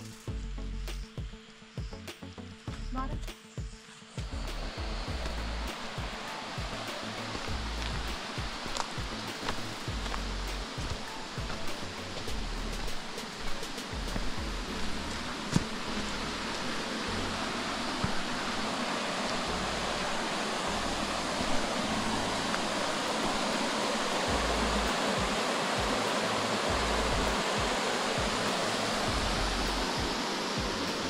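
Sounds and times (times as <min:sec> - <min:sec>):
river rushing over rocks: 0:04.2 - 0:31.0.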